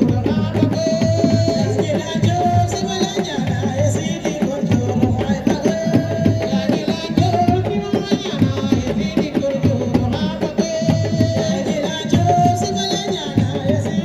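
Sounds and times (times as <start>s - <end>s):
sabar drums in a fast rhythm: 0.0s - 14.0s.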